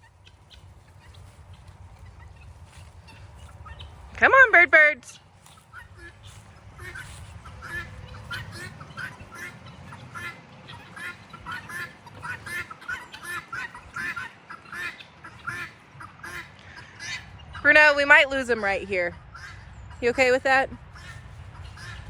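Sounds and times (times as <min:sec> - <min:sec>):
guinea fowl chattering calls: 0:00.0 - 0:22.0.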